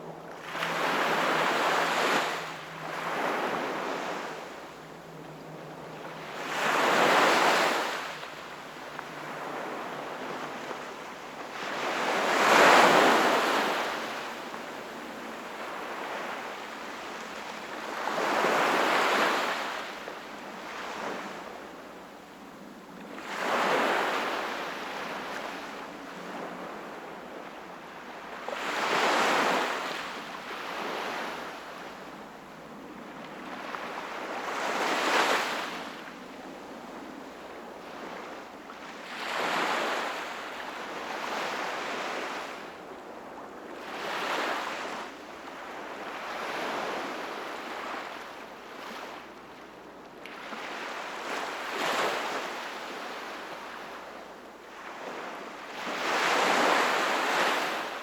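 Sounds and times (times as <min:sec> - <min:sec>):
ocean waves breaking on shore: 0:00.0 - 0:21.8, 0:23.1 - 0:49.6, 0:50.2 - 0:58.0.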